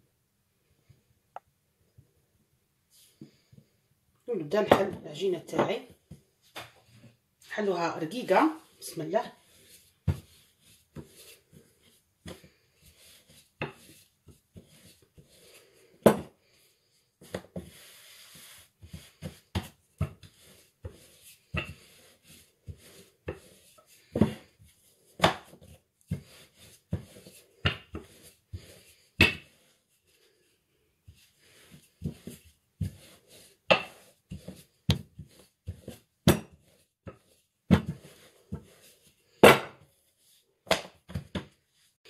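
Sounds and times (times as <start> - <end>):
rolling pin rubbing dough: 4.4 - 42.0.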